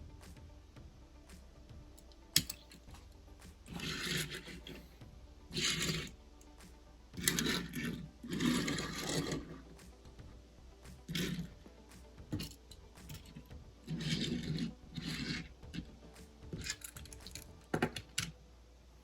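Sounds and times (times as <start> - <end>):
rubbing and scraping: 2.3 - 18.3.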